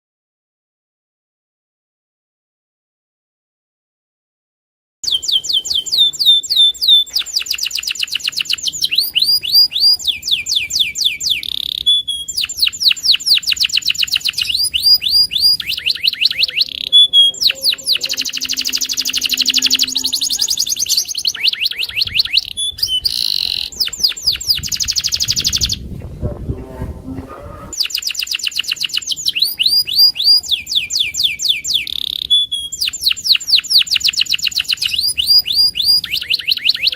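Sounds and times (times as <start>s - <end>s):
canary singing trills: 5.0s - 36.9s.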